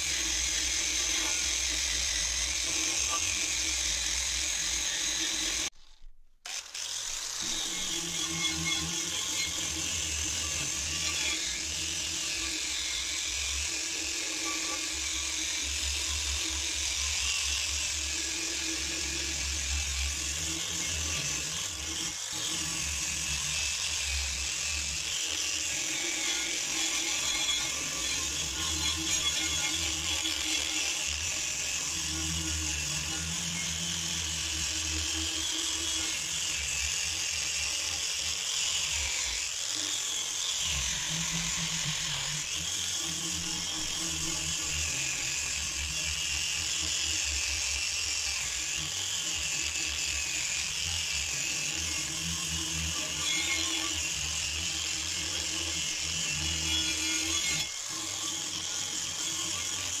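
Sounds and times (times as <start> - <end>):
angle grinder grinding metal: 0.0 - 60.0.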